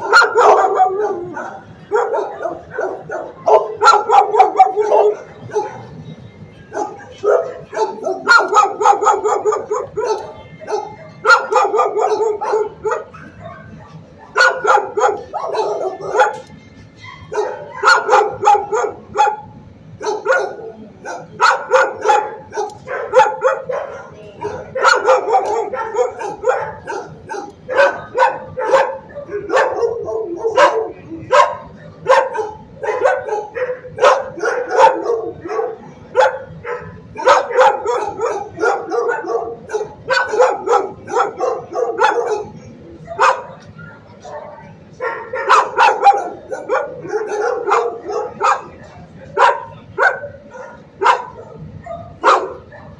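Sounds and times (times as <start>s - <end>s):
dogs barking: 0.0s - 52.9s.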